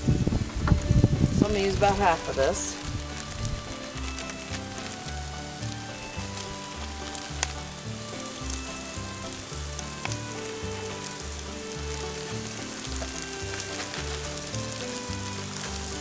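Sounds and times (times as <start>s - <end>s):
food sizzling in a skillet: 1.4s - 16.0s.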